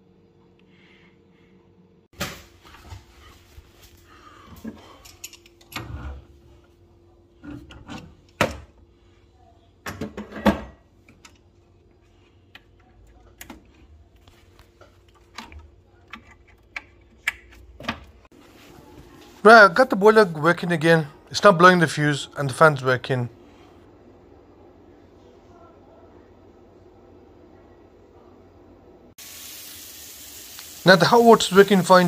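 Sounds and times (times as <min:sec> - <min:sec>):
faint steady hum: 0:03.2 - 0:31.7.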